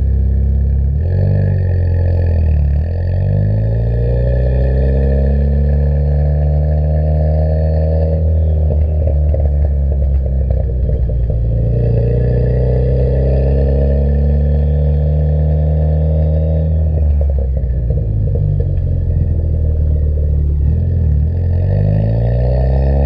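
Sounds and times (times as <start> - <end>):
deep car exhaust note: 0.0 - 23.0.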